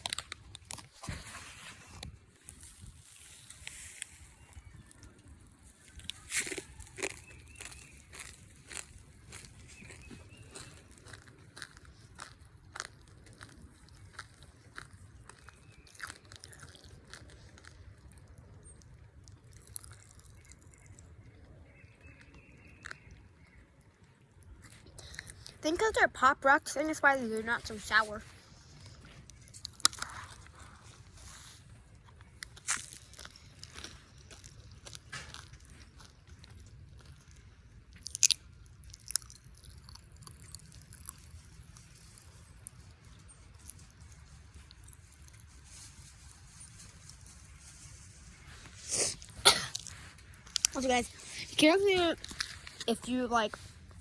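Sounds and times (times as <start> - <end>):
faint chewing: 0.0 - 1.2, 1.8 - 54.0
popping candy crackling in mouth: 0.0 - 1.2, 1.9 - 47.6, 48.4 - 54.0.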